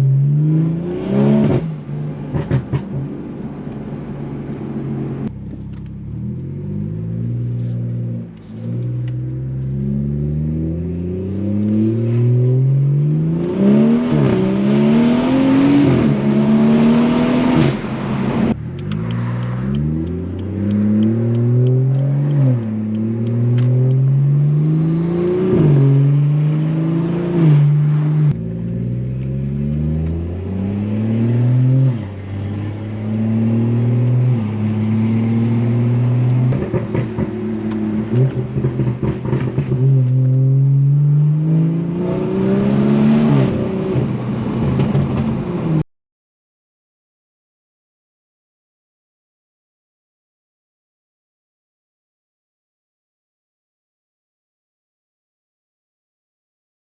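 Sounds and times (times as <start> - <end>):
car engine revving: 0.0 - 45.8.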